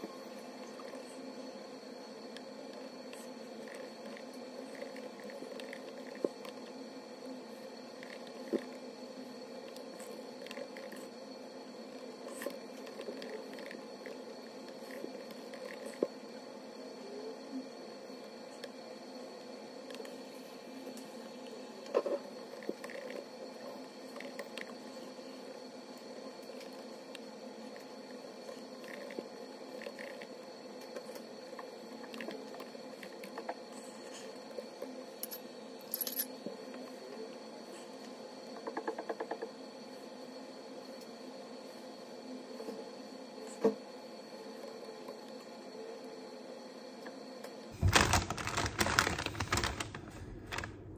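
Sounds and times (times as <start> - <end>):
steady background hum: 0.0 - 50.9.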